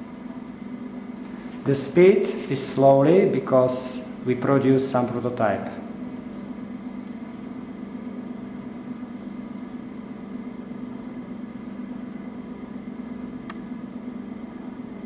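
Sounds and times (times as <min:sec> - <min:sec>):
coil winding machine humming: 0:00.0 - 0:15.0.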